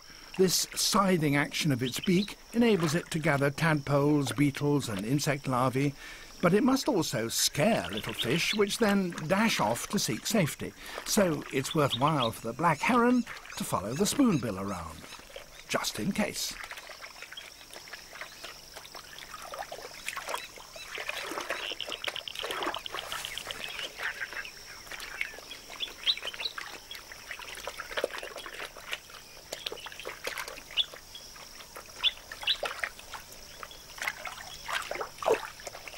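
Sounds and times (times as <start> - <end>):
birds chirping: 0.0 - 35.1
water trickling and splashing: 0.0 - 35.9.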